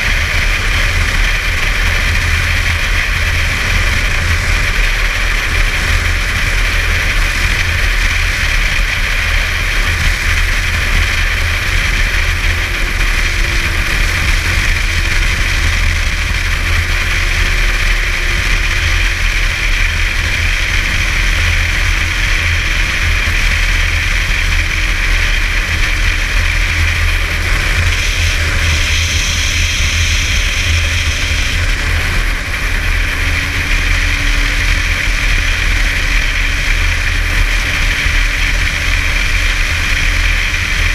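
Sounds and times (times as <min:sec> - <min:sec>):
snowmobile engine drone: 0:00.0 - 0:40.9.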